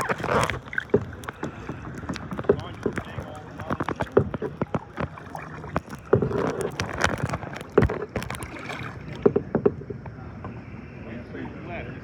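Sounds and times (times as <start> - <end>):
paddles knocking plastic kayaks: 0.0 - 10.2.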